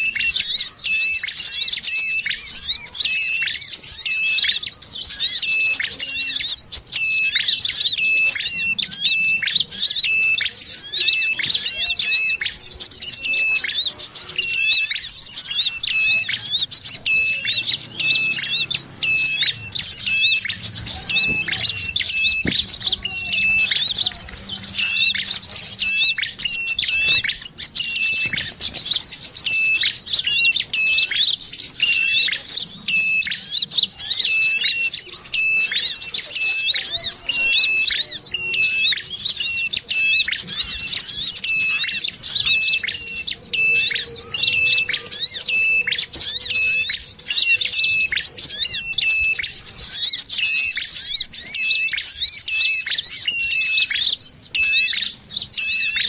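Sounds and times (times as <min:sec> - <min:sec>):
small birds chattering and chirping: 0:00.0 - 0:56.0.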